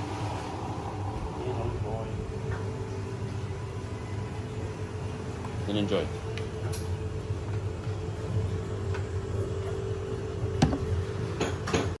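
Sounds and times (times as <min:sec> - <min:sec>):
machine hum: 0:00.0 - 0:11.9.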